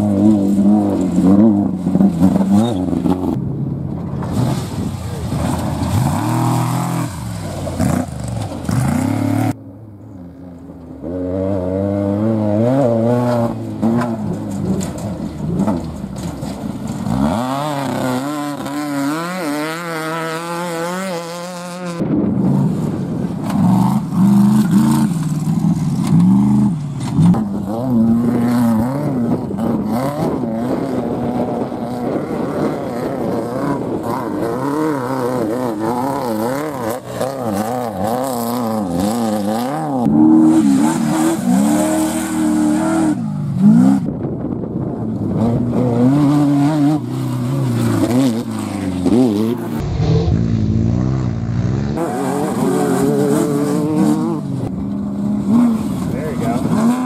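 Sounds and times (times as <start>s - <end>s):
race trucks engines revving past: 0.0s - 57.0s.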